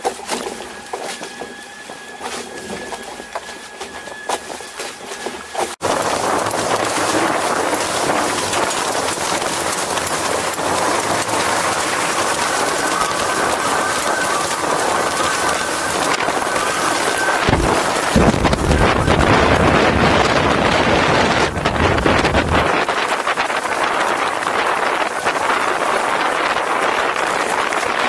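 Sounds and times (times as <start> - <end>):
water rushing past boat hulls: 0.0 - 28.0.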